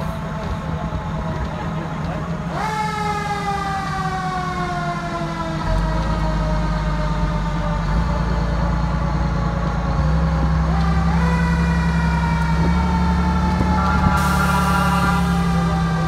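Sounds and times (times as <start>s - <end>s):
fire truck siren: 0.0s - 16.0s
truck engine running: 0.0s - 16.0s.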